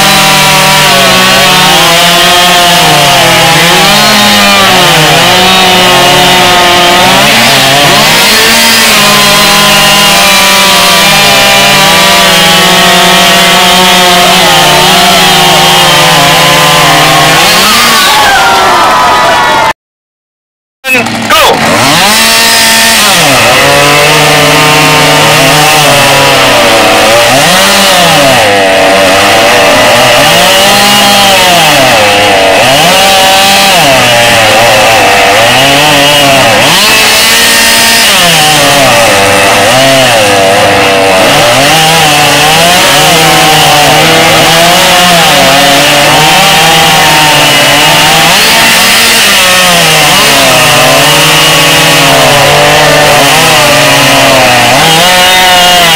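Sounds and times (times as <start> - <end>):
chainsaw cutting wood: 0.0 - 19.8, 20.9 - 55.9.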